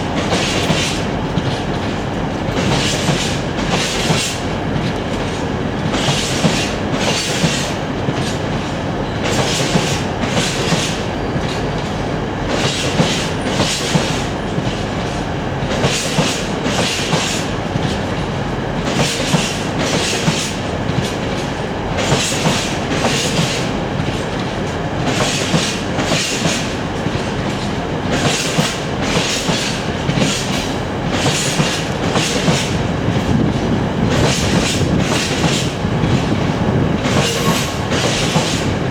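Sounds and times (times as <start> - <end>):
train rumbling past: 0.0 - 38.9
wheels clacking on rail joints: 0.0 - 38.9.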